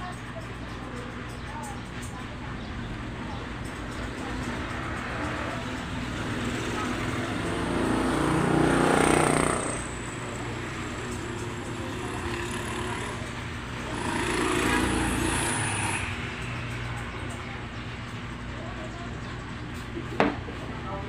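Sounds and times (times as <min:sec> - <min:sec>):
steady low hum: 0:00.0 - 0:21.0
vehicle engines passing by: 0:00.0 - 0:21.0.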